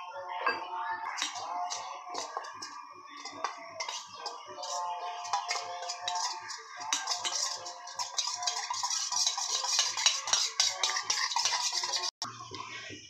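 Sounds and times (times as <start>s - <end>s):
metal spoon stirring clinking: 0.4s - 12.2s.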